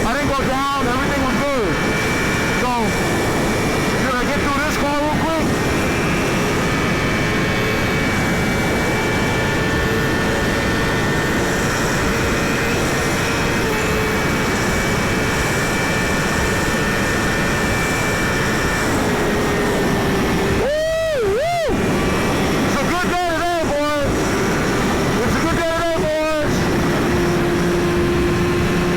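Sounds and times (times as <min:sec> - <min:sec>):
motorcycle engine at high speed: 0:00.0 - 0:28.9
wind rush on microphone: 0:00.0 - 0:28.9.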